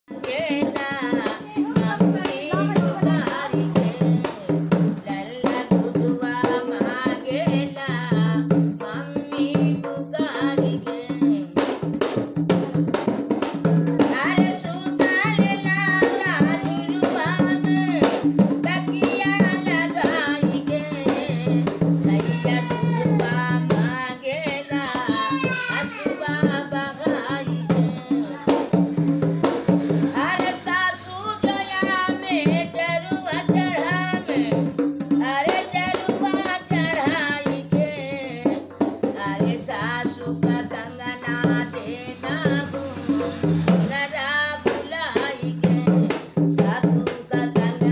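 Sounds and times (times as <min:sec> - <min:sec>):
elderly woman singing: 0:00.1 - 0:47.9
hand drum beat: 0:00.1 - 0:47.9.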